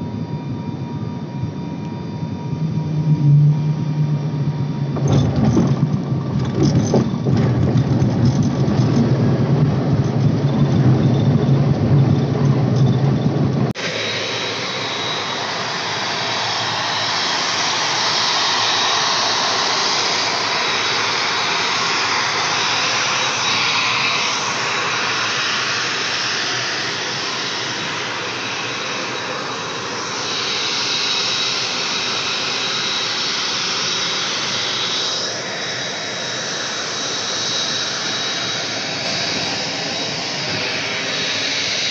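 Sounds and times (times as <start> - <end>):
aircraft turbine whine: 0.0 - 41.9
propeller engine droning in cabin: 0.0 - 41.9.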